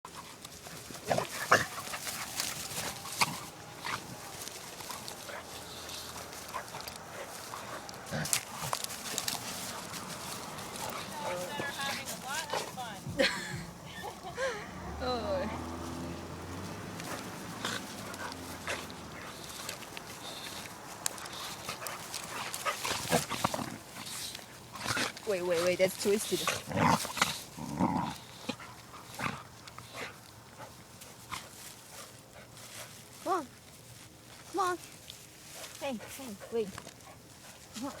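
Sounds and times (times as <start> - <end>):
dog noises: 0.1 - 33.6
puppies play-fighting: 0.1 - 38.0
scuffling: 0.1 - 38.0.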